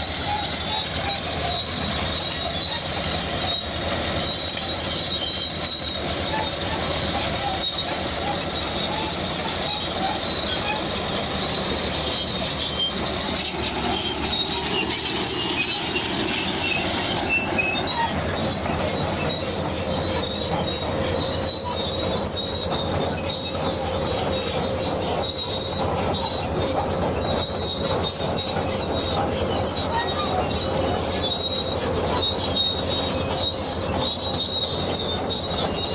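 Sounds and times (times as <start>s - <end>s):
bulldozer engine rumble: 0.0s - 35.9s
crawler tracks squealing and clanking: 0.0s - 35.9s.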